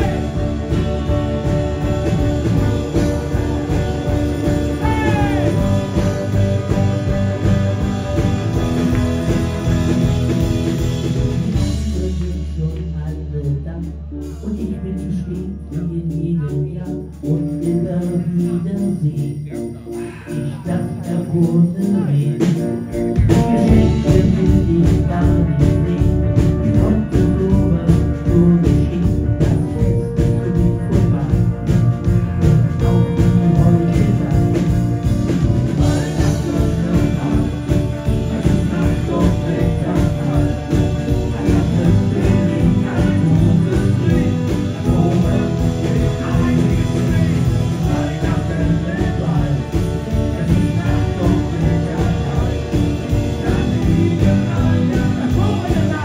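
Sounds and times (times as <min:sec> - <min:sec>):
drums: 0:00.0 - 0:56.0
pop band playing: 0:00.0 - 0:56.0.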